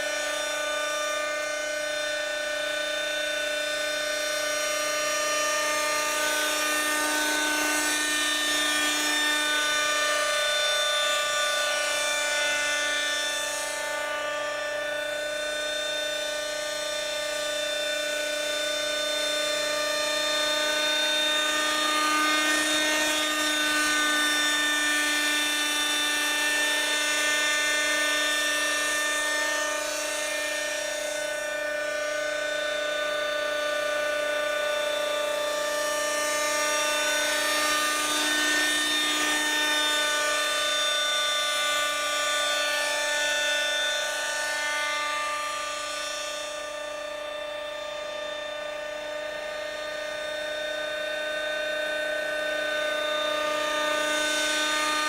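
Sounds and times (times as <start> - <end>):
model helicopter engine whining: 0.0 - 55.0.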